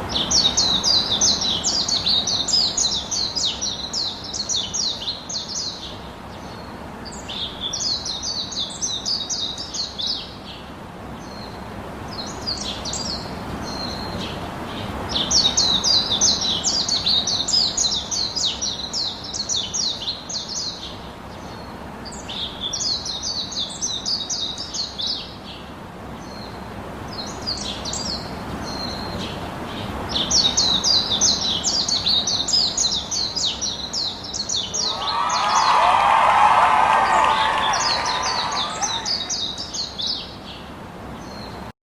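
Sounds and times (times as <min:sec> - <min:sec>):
low background noise: 0:00.0 - 0:41.7
small birds chirping: 0:00.1 - 0:36.5.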